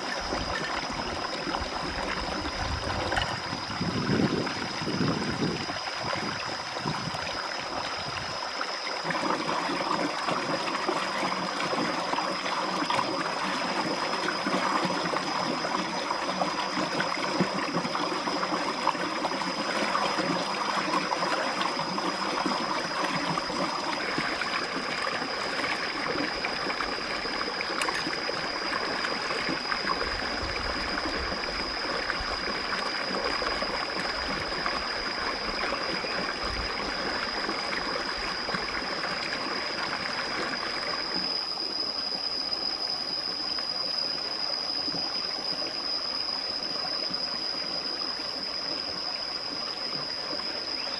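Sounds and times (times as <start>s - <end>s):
steady high-pitched tone: 0.0s - 50.9s
stream water running over rocks: 0.0s - 50.9s.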